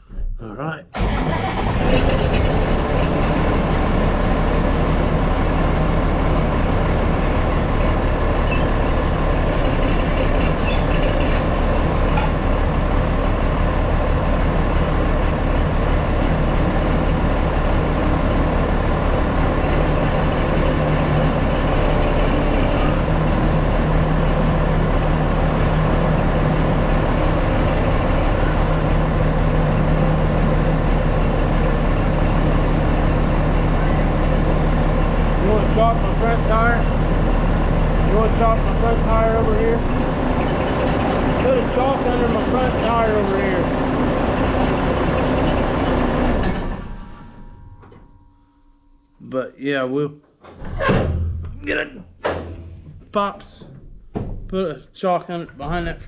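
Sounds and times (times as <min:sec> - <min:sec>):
tractor engine running: 0:01.0 - 0:49.1, 0:50.4 - 0:56.0.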